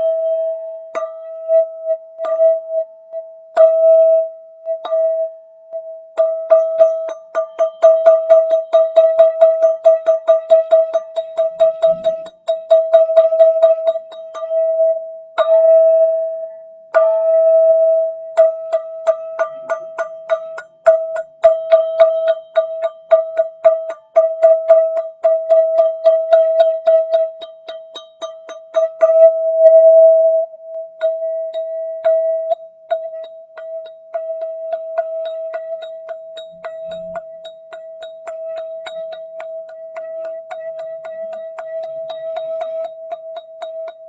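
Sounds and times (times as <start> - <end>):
metal tube struck and ringing: 3.5 - 44.0.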